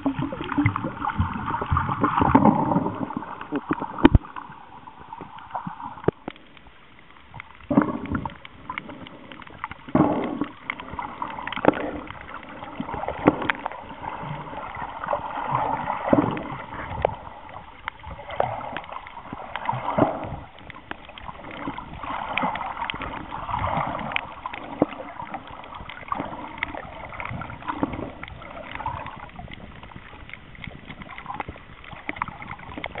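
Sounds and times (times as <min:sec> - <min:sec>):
muffled water sloshing underwater: 0:00.0 - 0:33.0.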